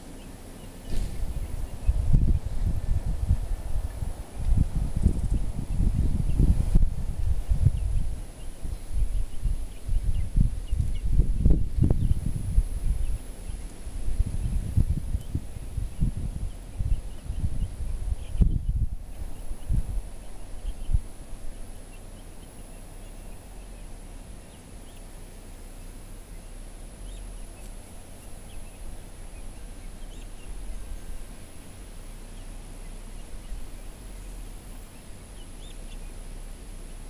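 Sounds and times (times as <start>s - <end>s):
chicks chirping and peeping: 0.0s - 37.0s
steady low rumble: 0.0s - 37.0s.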